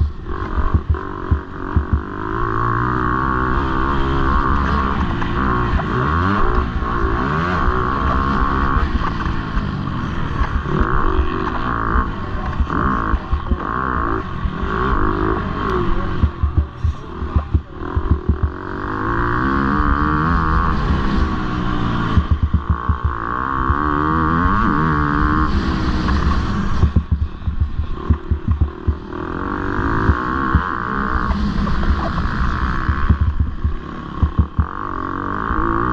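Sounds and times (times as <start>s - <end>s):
motocross bike engine revving: 0.0s - 35.9s.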